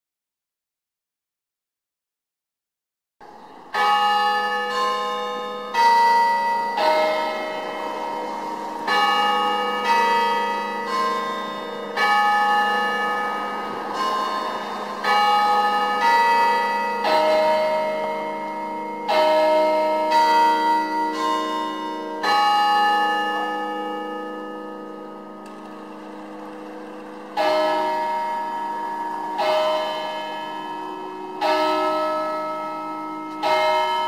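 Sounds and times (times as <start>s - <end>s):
church bells ringing: 3.2s - 34.0s.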